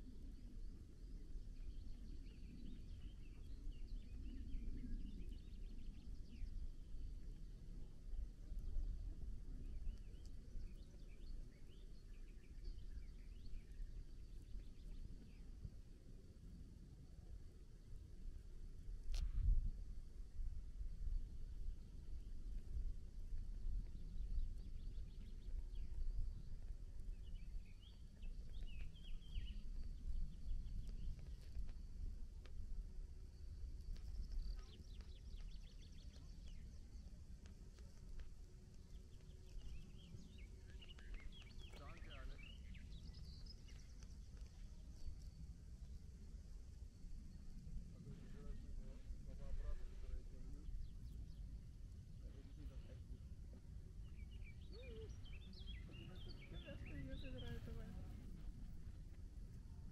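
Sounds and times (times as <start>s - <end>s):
low rumbling noise: 0.0s - 59.9s
songbirds chirping and twittering: 0.0s - 59.9s.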